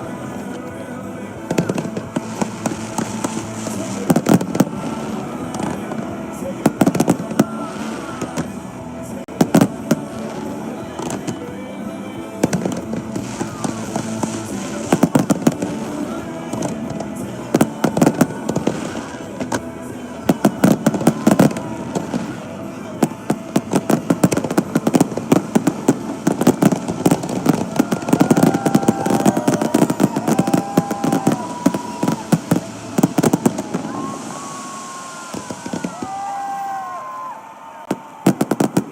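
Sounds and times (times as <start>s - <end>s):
fireworks exploding: 0.0s - 38.9s.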